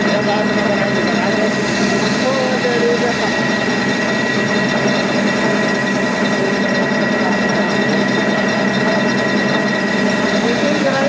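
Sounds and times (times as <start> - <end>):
lathe running hum: 0.0 - 11.0
thin steady whine: 0.0 - 11.0.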